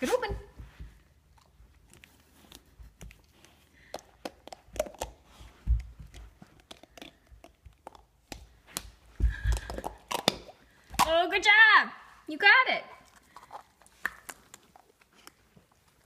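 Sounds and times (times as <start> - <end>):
dog chewing plastic egg: 1.2 - 11.2, 13.1 - 16.0.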